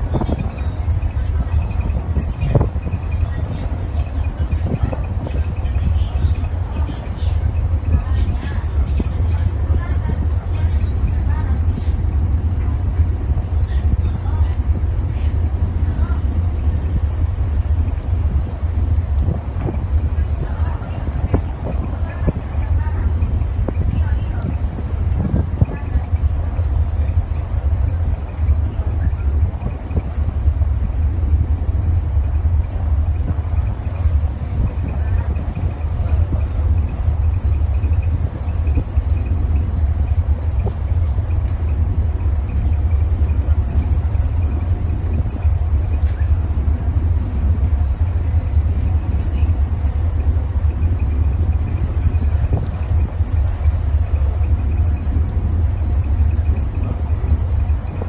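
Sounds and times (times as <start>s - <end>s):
sea rushing past hull: 0.0s - 58.0s
ship engine rumble: 0.0s - 58.0s
wind buffeting microphone: 0.0s - 58.0s.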